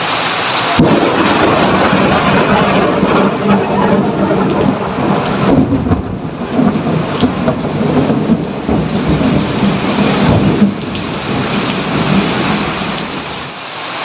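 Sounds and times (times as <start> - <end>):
rain falling: 0.0 - 14.0
low rumbling thunder: 0.8 - 13.5.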